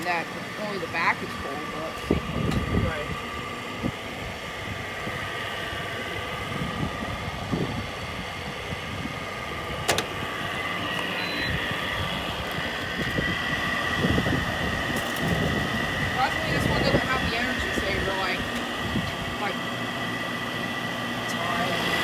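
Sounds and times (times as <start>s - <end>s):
air conditioner fan and motor: 0.0s - 22.0s
high whine: 0.0s - 22.0s.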